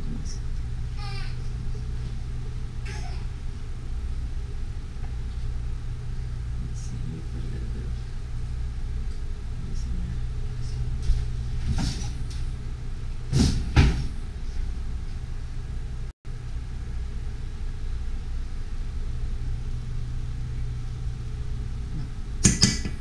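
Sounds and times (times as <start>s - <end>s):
low kitchen rumble: 0.0s - 23.0s.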